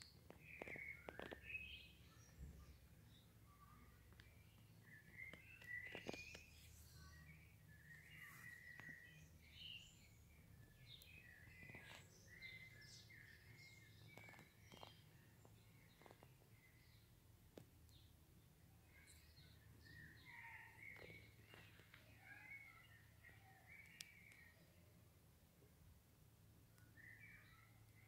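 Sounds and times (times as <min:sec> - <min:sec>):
faint birdsong chirps and trills: 0:00.0 - 0:28.0.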